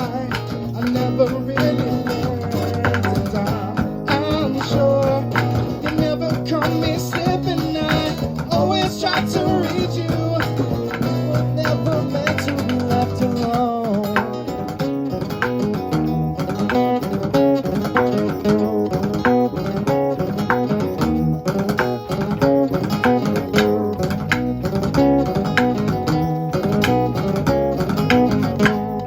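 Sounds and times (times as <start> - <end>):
lead guitar picked notes: 0.0 - 29.0
live band instrumental: 0.0 - 29.0.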